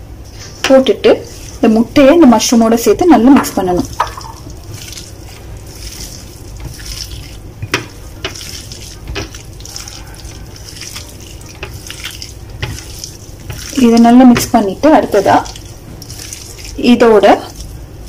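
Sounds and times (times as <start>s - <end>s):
wet squelching of hand mixing: 0.2s - 18.0s.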